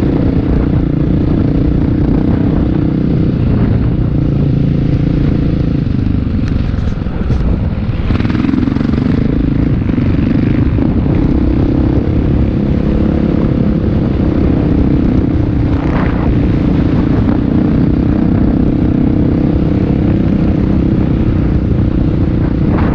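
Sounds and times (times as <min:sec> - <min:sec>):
motocross engines droning: 0:00.0 - 0:22.9.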